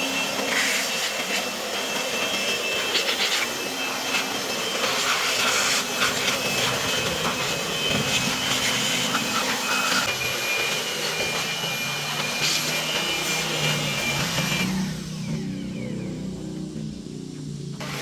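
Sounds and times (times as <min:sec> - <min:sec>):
motor running with whine: 0:00.0 - 0:18.0.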